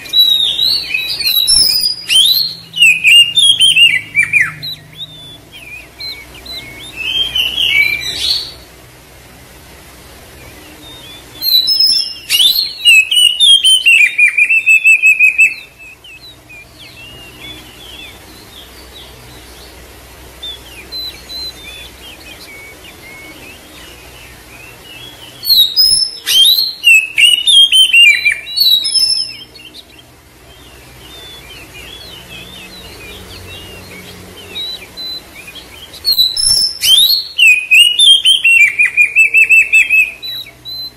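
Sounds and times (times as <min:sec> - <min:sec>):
bird whistles and twittering: 0:00.0 - 0:08.8, 0:10.3 - 0:40.9
soft bird chirping: 0:00.0 - 0:40.9.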